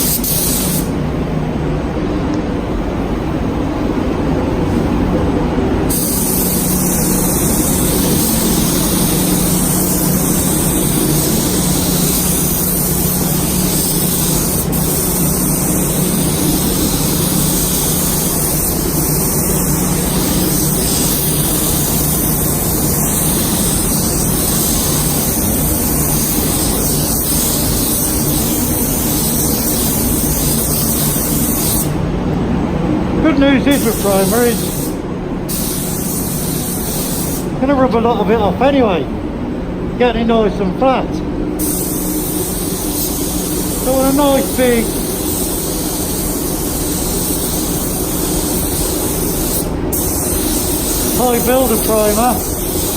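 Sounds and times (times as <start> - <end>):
spray gun hissing: 0.0 - 1.0, 5.9 - 32.0, 33.2 - 38.4, 41.6 - 52.9.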